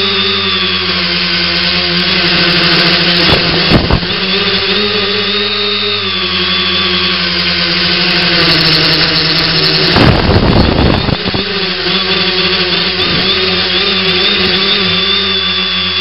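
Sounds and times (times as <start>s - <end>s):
drone motors buzzing whine: 0.0s - 16.0s
rough rushing noise: 1.3s - 6.1s, 7.0s - 15.1s.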